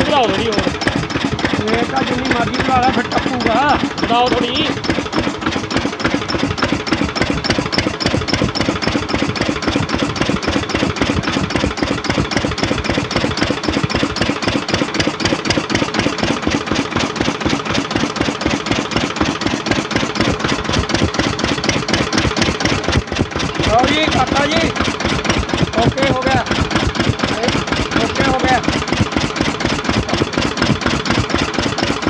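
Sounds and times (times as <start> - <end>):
stationary diesel engine running: 0.0 - 32.0.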